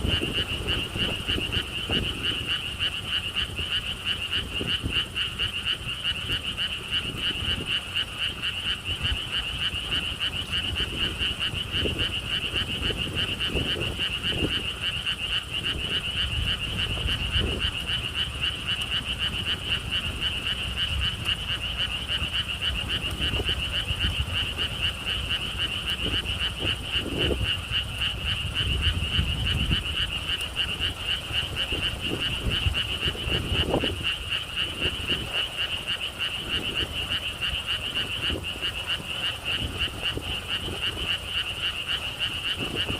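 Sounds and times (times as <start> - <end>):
frogs calling in a trill: 0.0 - 42.9
wind rumbling on microphone: 0.0 - 42.9.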